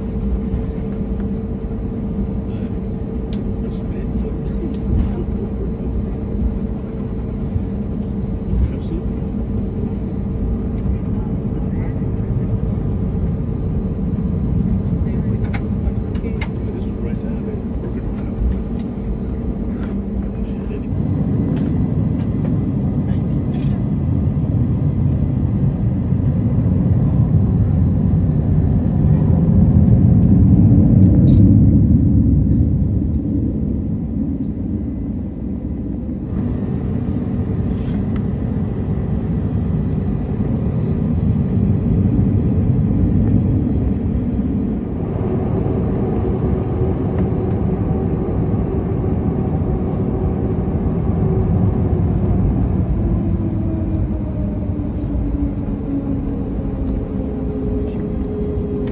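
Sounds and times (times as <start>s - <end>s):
jet engines rumbling in cabin: 0.0s - 58.9s.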